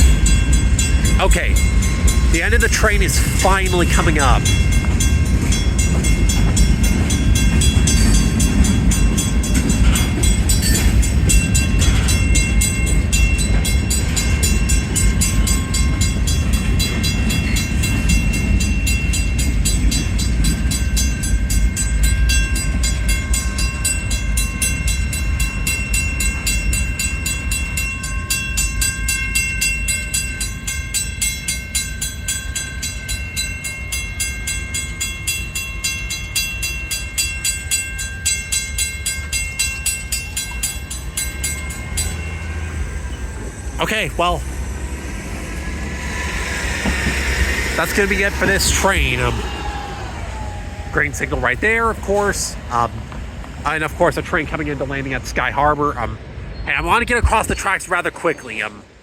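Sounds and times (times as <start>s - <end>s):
freight train cars rumbling past: 0.0s - 59.0s
railroad crossing bells ringing: 0.0s - 59.0s.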